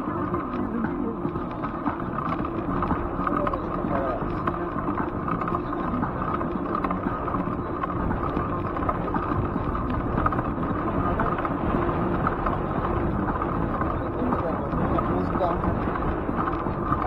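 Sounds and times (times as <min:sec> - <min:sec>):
bicycle tyres rolling on asphalt: 0:00.0 - 0:17.0.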